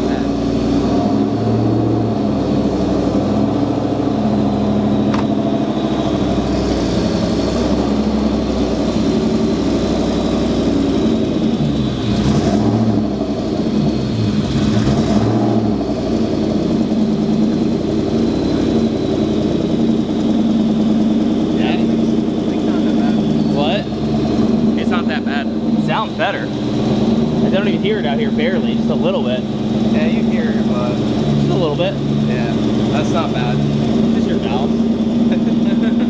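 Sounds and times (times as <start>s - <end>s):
car engine idling: 0.0s - 36.0s
engine revving: 0.0s - 36.0s.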